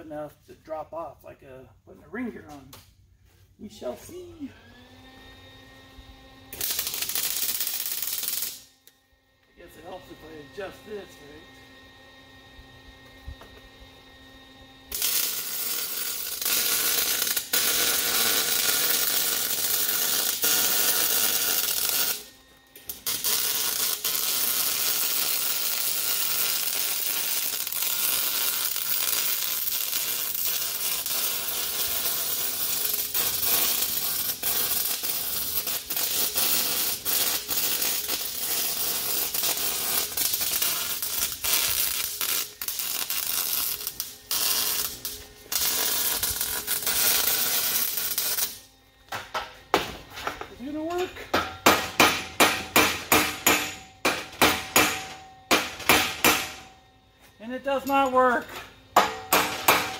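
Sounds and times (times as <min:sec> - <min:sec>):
arc welder crackling hiss: 0:06.4 - 0:11.7, 0:13.0 - 0:59.9.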